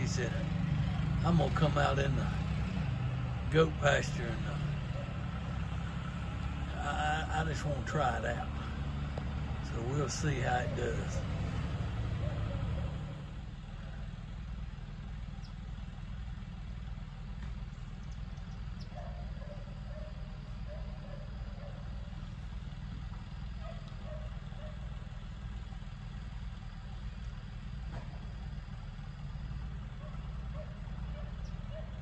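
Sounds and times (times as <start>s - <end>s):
tractor engine idling: 0.0s - 32.0s.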